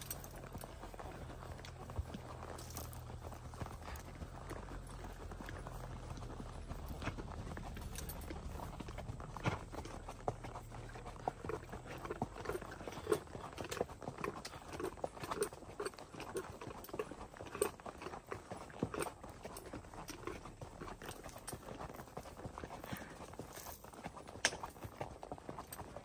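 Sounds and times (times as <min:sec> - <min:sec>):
horse hooves on dirt: 0:00.0 - 0:26.0.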